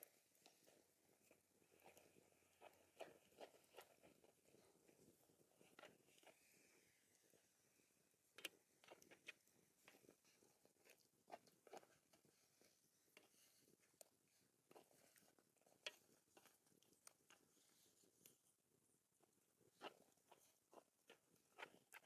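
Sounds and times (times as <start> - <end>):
person chewing food: 0.6 - 6.4, 8.4 - 18.4, 19.2 - 22.0.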